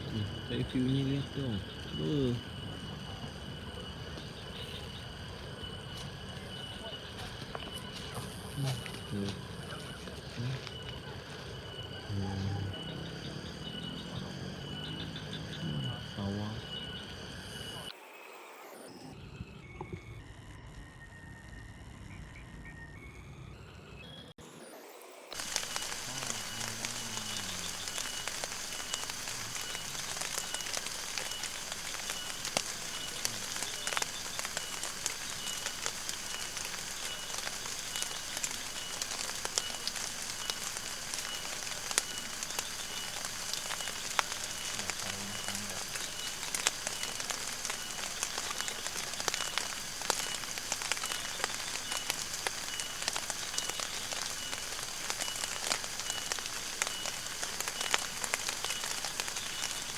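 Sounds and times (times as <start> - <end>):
rain falling: 0.0 - 16.9, 25.3 - 59.9.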